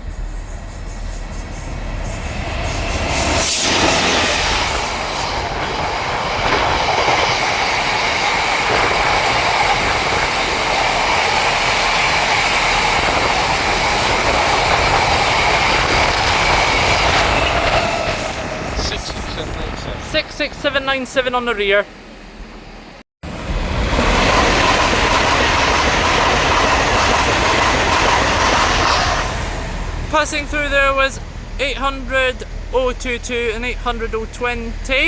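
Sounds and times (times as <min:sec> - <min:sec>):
freight train passing: 0:00.0 - 0:35.0.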